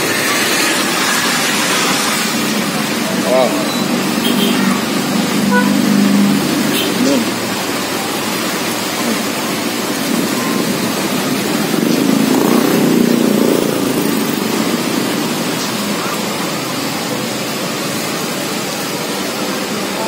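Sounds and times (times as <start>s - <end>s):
road traffic hiss and hum: 0.0s - 20.0s
vehicle passing: 0.8s - 19.6s.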